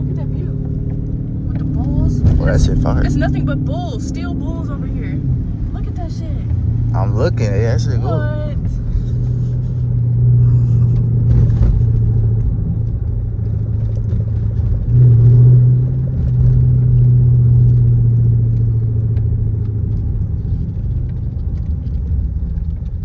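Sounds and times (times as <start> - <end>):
car exhaust droning: 0.0 - 21.3.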